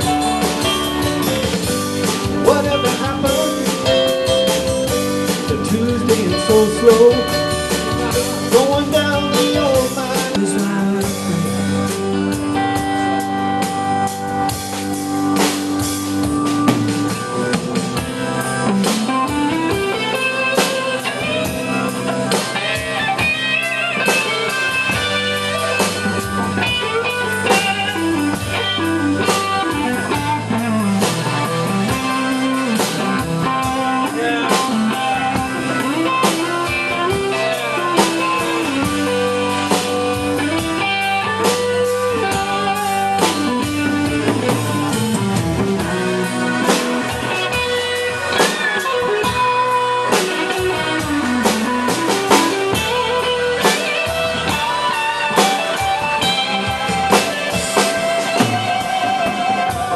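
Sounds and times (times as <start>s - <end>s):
drum kit: 0.0s - 59.9s
electric guitar with sliding notes: 0.0s - 59.9s
keyboard: 0.0s - 59.9s.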